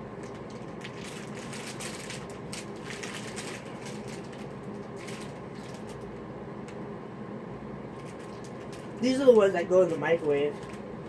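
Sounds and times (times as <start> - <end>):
plastic packaging crinkling: 0.0 - 6.2, 7.9 - 11.0.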